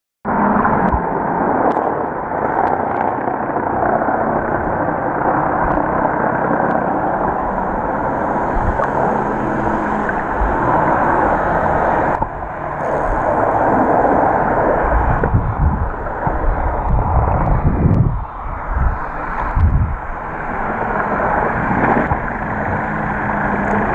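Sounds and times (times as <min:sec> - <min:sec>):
low water surges: 0:00.3 - 0:23.9
muffled underwater water rushing: 0:00.3 - 0:23.9.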